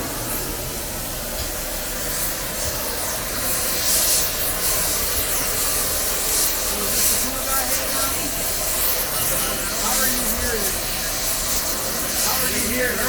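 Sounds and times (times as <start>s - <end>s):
steady hissing noise: 0.0s - 13.0s.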